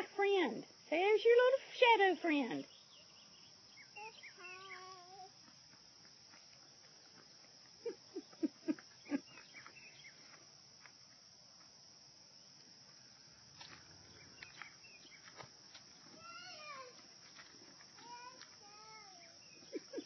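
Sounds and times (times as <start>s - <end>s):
high drone of insects: 0.0s - 20.0s.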